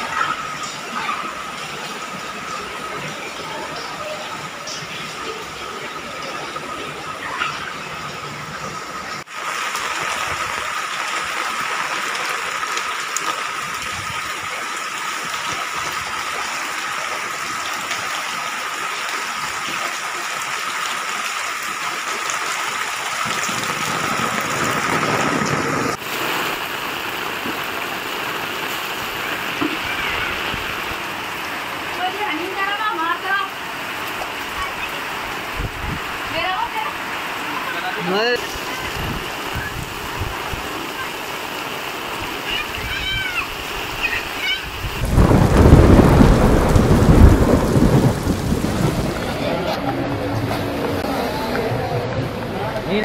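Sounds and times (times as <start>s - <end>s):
floodwater running: 0.0s - 53.0s
heavy rain: 0.0s - 53.0s.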